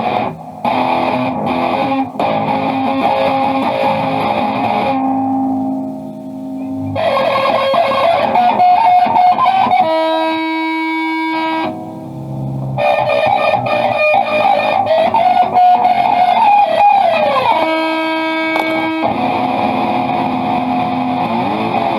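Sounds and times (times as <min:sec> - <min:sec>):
electric guitar music: 0:00.0 - 0:21.9.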